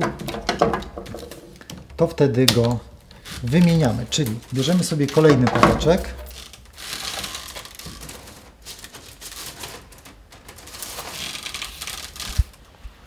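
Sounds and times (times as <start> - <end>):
wicker rods rustling and clicking: 0.0 - 13.0.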